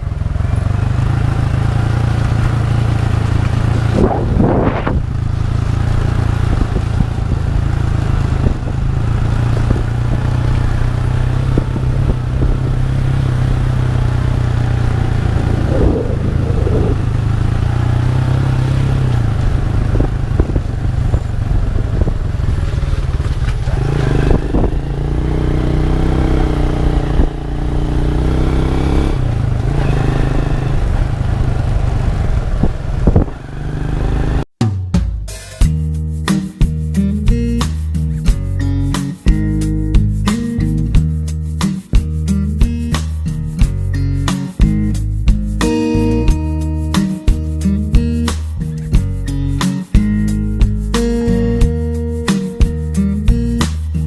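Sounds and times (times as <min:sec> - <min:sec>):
motorcycle engine running: 0:00.0 - 0:34.5, 0:38.2 - 0:53.9.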